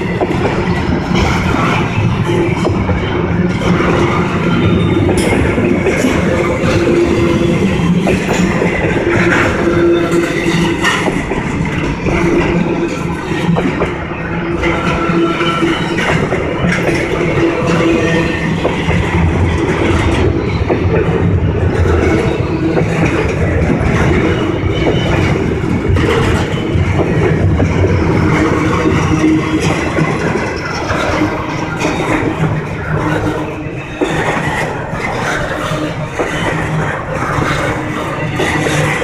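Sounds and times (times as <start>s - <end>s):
train wheels rumbling on rails: 0.0s - 39.0s
wheels clicking over rail joints: 0.0s - 39.0s.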